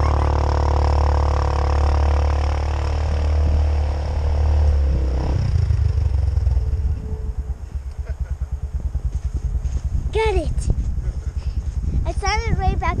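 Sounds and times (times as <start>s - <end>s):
engine running and idling: 0.0s - 13.0s.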